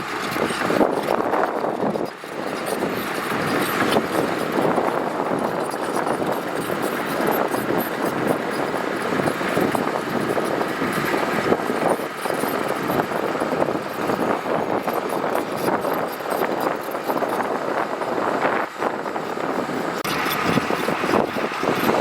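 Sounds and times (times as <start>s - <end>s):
diesel engine under load: 0.0s - 22.0s
gravel rattle of small clicks: 0.0s - 22.0s.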